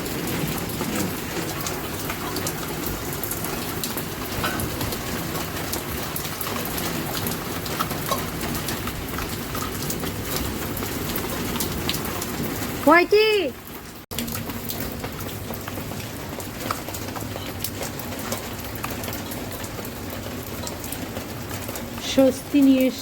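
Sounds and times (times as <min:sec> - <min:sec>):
heavy rain falling: 0:00.0 - 0:23.0
raindrops hitting surfaces: 0:00.0 - 0:23.0.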